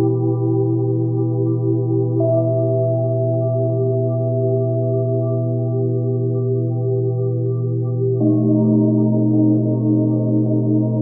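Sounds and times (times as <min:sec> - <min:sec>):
low drone tone: 0:00.0 - 0:11.0.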